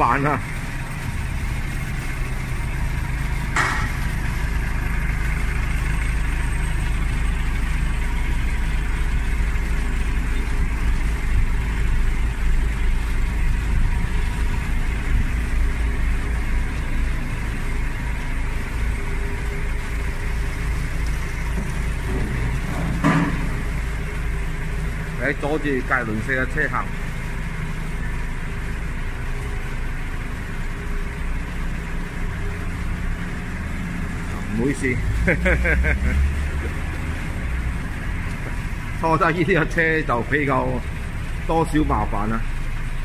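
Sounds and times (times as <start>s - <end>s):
vehicle engine idling: 0.0s - 43.0s.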